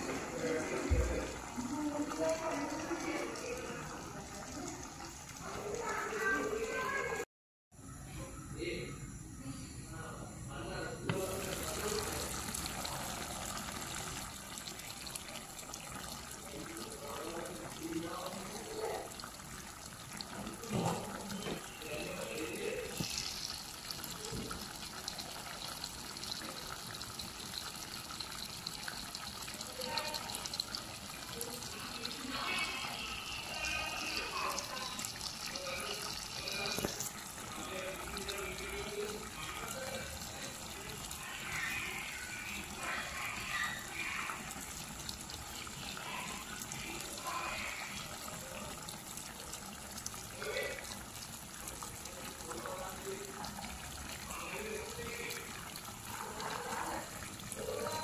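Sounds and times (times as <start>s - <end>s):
curry bubbling in a pan: 0.0s - 7.2s, 11.1s - 58.0s.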